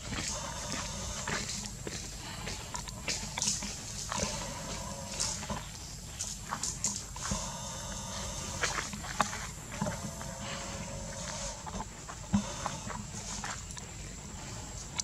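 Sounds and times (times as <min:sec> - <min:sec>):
monkey calls and grunts: 0:00.0 - 0:15.0
rustles: 0:00.0 - 0:15.0.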